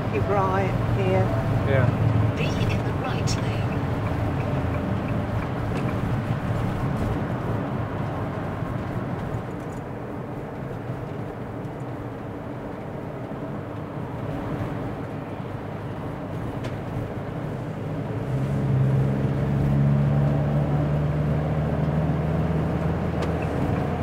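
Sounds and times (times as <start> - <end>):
engine and road noise: 0.0 - 24.0.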